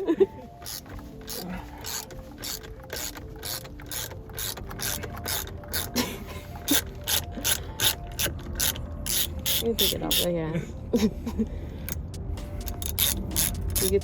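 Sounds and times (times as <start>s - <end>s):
ratchet wrench clicking: 0.6s - 6.0s, 6.6s - 10.3s, 11.9s - 14.0s.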